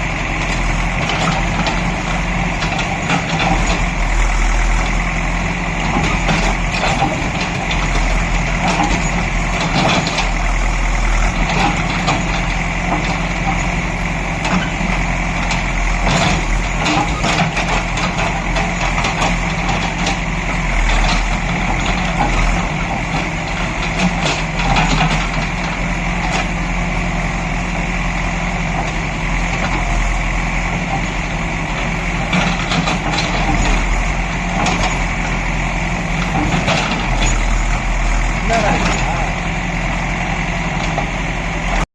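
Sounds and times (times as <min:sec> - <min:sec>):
heavy vehicle engine running: 0:00.0 - 0:41.9.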